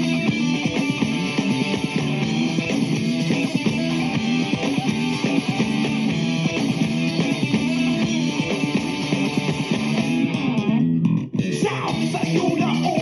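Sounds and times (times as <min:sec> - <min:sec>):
guitar music with steady beat: 0:00.0 - 0:13.0.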